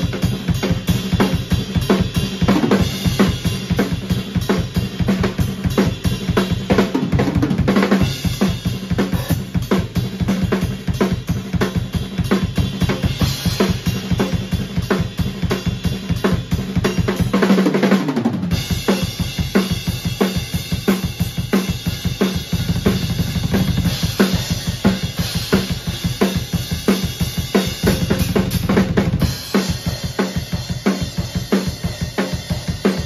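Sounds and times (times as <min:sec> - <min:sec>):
drum kit solo: 0:00.0 - 0:33.0.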